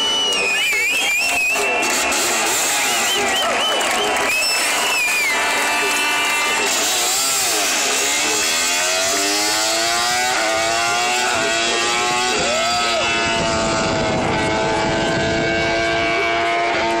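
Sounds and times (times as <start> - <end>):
motorcycle engine accelerating: 0.1 - 17.0.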